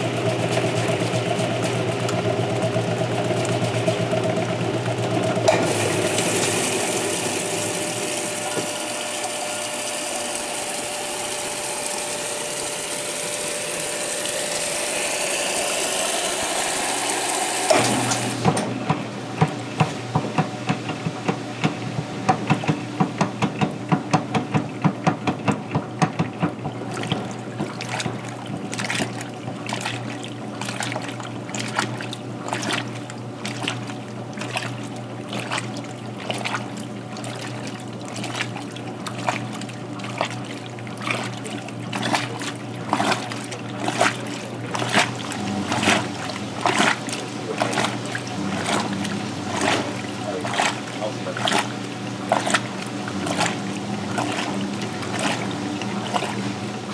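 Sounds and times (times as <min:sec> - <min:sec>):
washer agitator sloshing: 0:00.0 - 0:56.9
washing machine hum: 0:00.0 - 0:56.9
water rushing into washer tub: 0:00.0 - 0:56.9.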